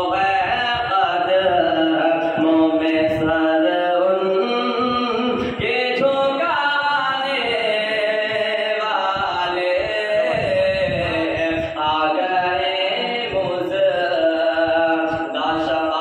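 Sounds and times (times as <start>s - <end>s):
person chanting melodic recitation: 0.0s - 16.0s.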